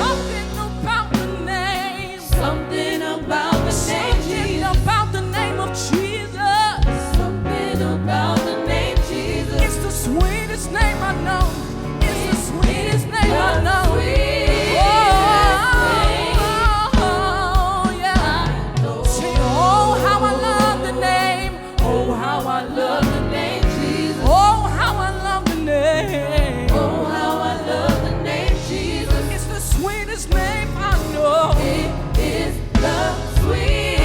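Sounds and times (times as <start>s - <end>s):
backing band with steady beat: 0.0s - 34.0s
gospel vocal group singing: 0.0s - 34.0s.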